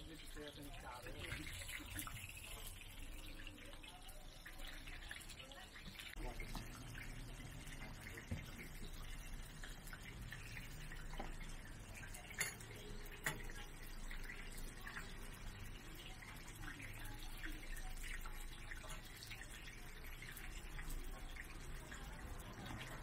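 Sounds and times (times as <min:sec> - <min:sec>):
pancakes sizzling in oil: 0:00.0 - 0:23.0.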